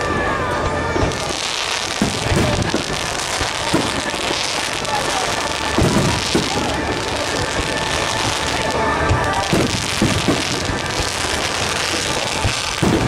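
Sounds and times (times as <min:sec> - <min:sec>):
fireworks sparks hissing and crackling: 0:00.0 - 0:13.0
firework shells booming: 0:00.9 - 0:13.0.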